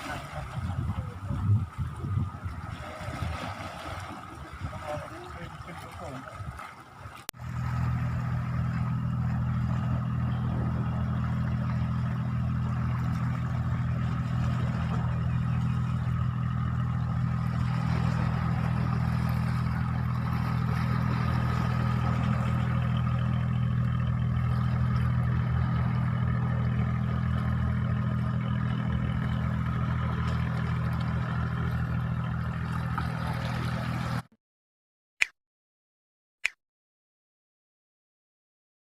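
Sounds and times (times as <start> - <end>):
engine running steadily: 0.0 - 34.3.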